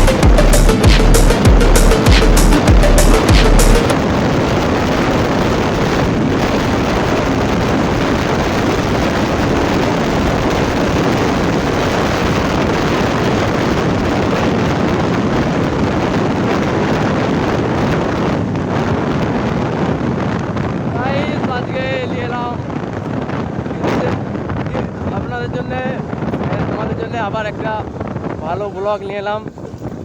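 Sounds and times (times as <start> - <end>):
motorcycle engine and road noise: 0.0 - 30.0
wind noise on microphone: 0.0 - 30.0.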